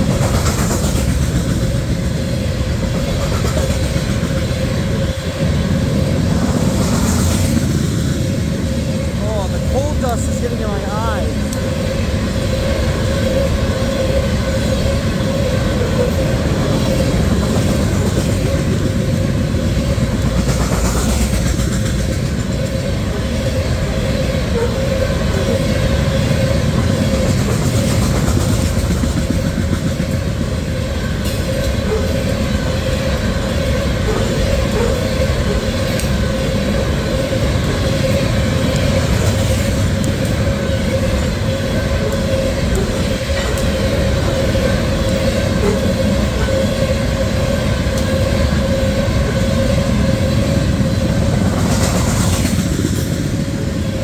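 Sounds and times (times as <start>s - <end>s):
steel wheels running on rails: 0.0s - 54.0s.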